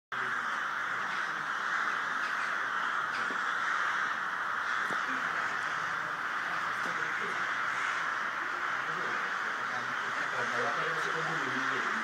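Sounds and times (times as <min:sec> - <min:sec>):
crows cawing: 0:00.1 - 0:12.0.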